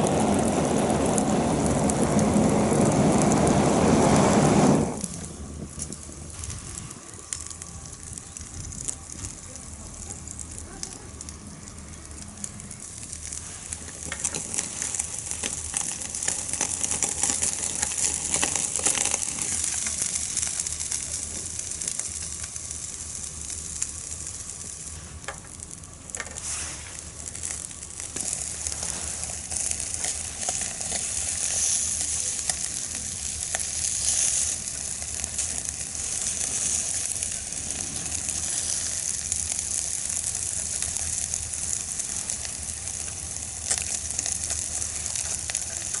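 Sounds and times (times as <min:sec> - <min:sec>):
fat crackling: 0:00.0 - 0:46.0
fish head sizzling on fire: 0:00.0 - 0:46.0.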